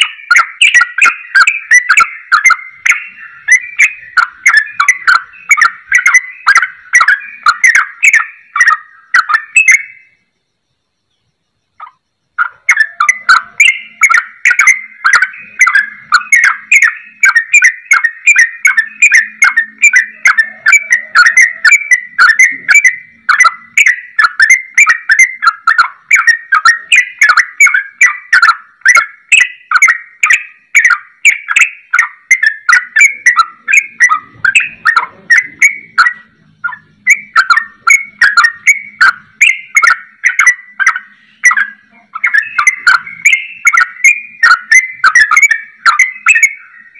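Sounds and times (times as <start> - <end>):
bulbul singing whistled notes: 0.0 - 46.9.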